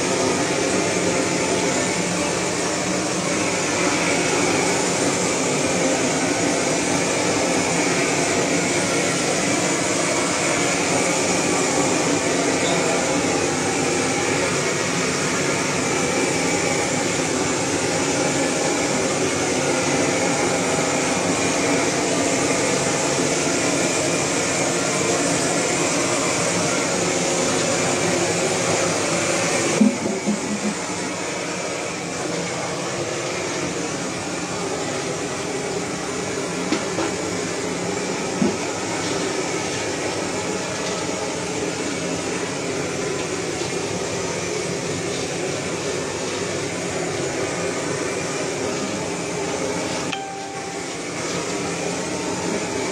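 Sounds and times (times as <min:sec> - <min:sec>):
gas blowtorch roaring: 0:00.0 - 0:50.2, 0:50.9 - 0:52.9.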